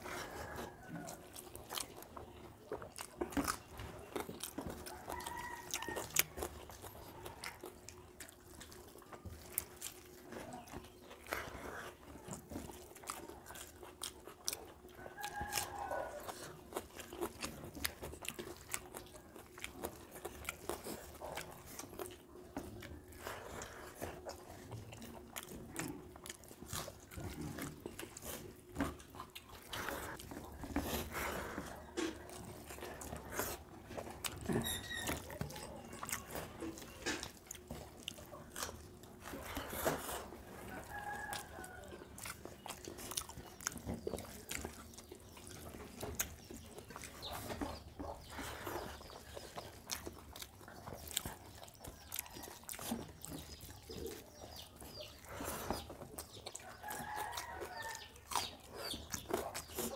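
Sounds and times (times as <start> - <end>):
chewing and mouth sounds: 0.0 - 59.9.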